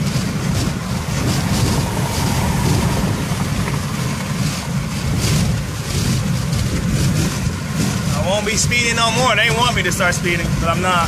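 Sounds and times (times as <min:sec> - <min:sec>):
road noise rumble in car: 0:00.0 - 0:11.0
wind hiss: 0:00.0 - 0:11.0.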